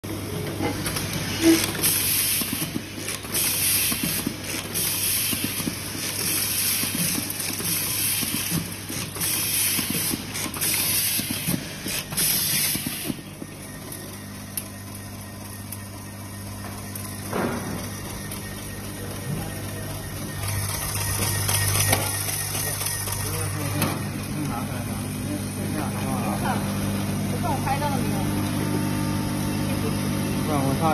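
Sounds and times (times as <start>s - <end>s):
steady machine hum: 0.1s - 30.9s.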